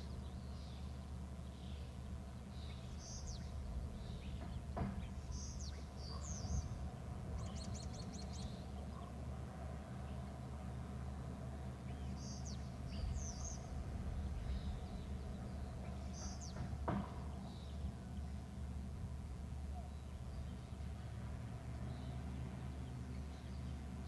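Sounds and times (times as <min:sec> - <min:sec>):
birds chirping: 0:00.0 - 0:24.0
steady low hum: 0:00.0 - 0:24.0.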